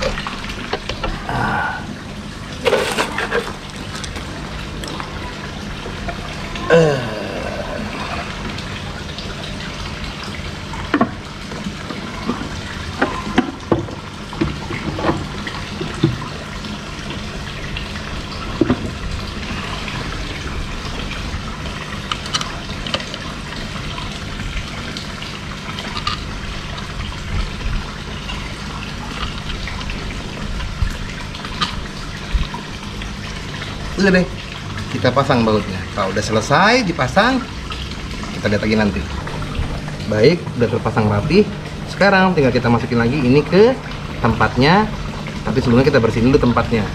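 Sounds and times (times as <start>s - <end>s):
low steady hum: 0.0s - 46.9s
water pouring into pond: 0.0s - 46.9s.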